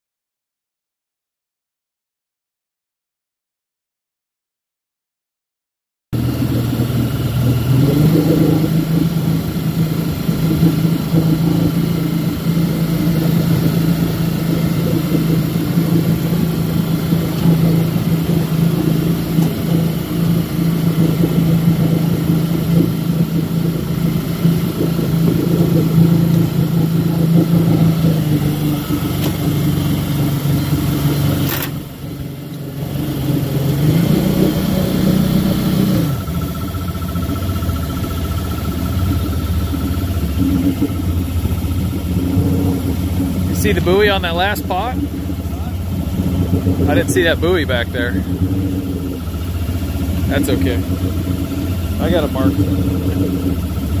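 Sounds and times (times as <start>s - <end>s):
boat engine humming: 6.2s - 54.0s
water noise: 6.2s - 54.0s
wind: 6.2s - 54.0s.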